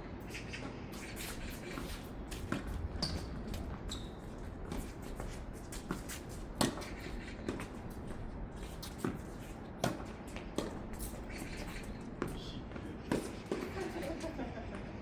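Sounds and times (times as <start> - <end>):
shoe squeaks: 0.2 - 14.4
shuffling footsteps on hard court: 0.3 - 14.4.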